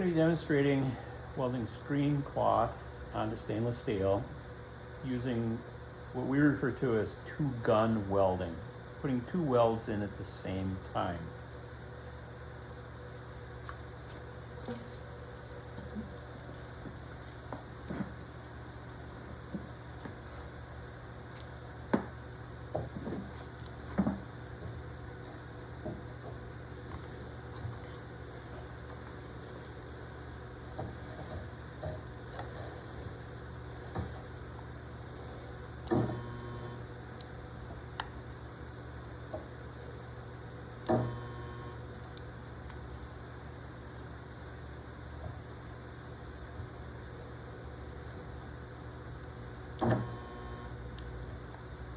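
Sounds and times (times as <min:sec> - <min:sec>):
steady electrical hum: 0:00.0 - 0:51.9.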